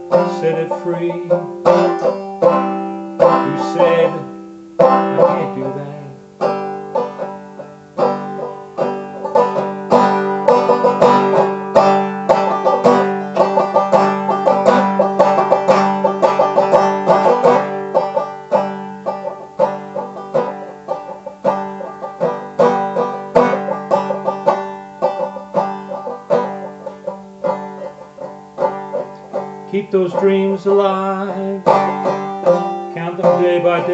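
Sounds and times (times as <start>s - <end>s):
banjo picking: 0.0s - 33.9s.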